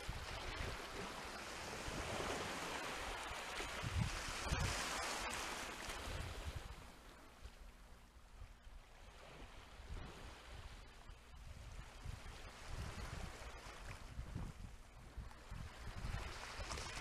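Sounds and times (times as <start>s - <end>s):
waves lapping on seawall: 0.0s - 7.6s, 9.0s - 17.0s.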